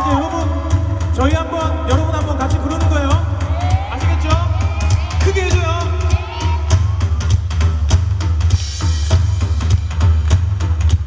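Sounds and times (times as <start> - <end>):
drum kit beat: 0.0 - 11.0
heavy bass line: 0.0 - 11.0.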